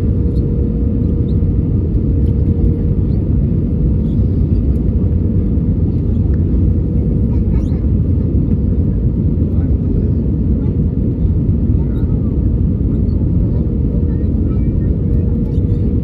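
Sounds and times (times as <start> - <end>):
airplane engines rumbling in cabin: 0.0 - 16.0.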